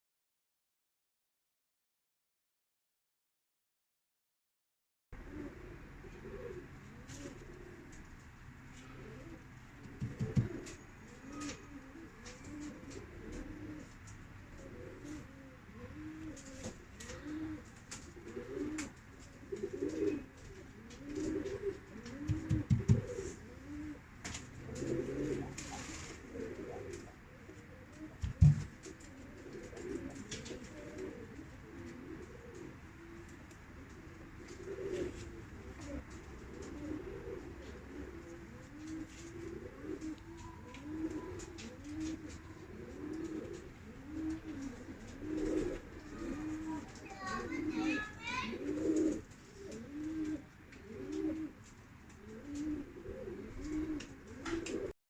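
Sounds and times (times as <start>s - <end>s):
pigeons cooing: 5.2s - 55.0s.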